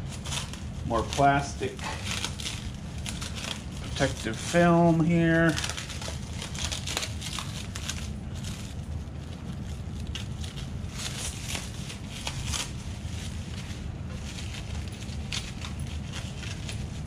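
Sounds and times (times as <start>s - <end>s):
plastic film crackling as peeled: 0.0s - 17.0s
steady low hum: 0.0s - 17.0s.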